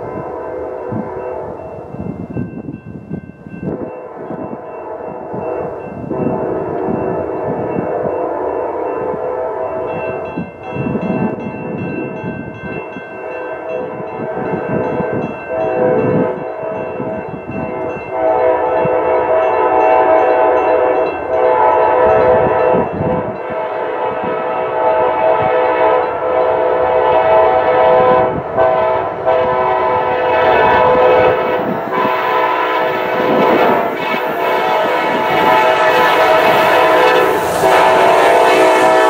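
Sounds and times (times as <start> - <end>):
train air horn blasts: 0.0 - 1.7, 4.0 - 11.0, 13.2 - 39.0
crossing warning bell ringing: 0.0 - 39.0.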